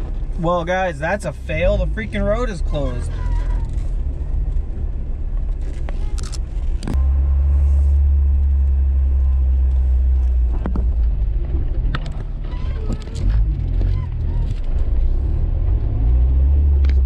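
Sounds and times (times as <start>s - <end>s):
engine and road drone: 0.0s - 17.0s.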